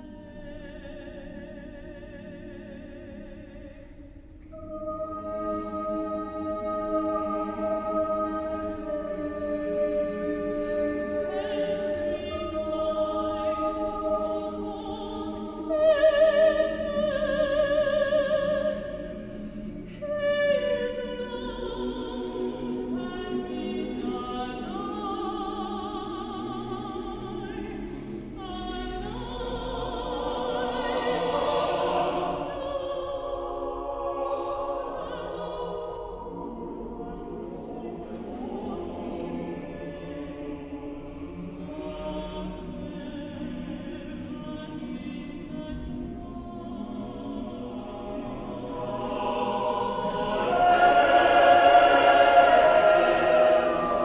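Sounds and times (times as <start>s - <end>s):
choir singing held chords: 0.0s - 54.0s.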